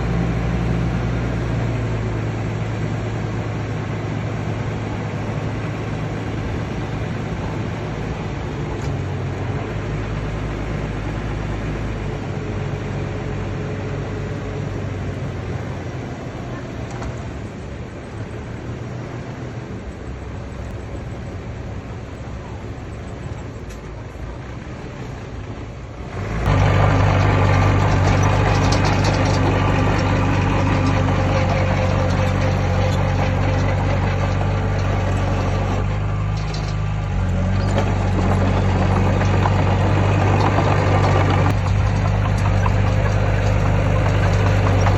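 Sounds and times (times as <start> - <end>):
heavy machine diesel engine: 0.0 - 44.9.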